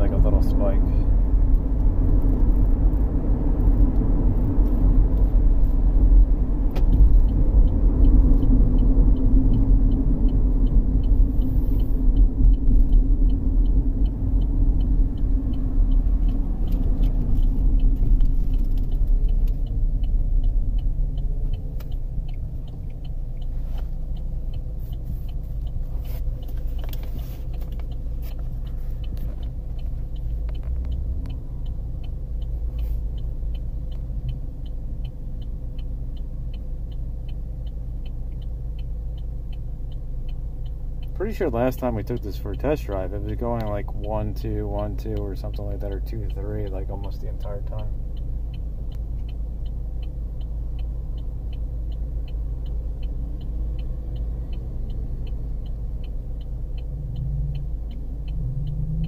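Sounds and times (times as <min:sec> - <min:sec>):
car engine and road noise: 0:00.0 - 0:59.0
faint regular engine ticking: 0:00.0 - 0:59.0.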